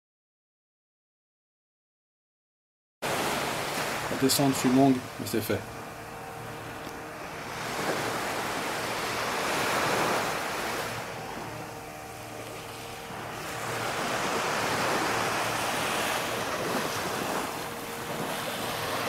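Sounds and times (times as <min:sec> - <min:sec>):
sea surf washing on beach: 0:03.0 - 0:19.0.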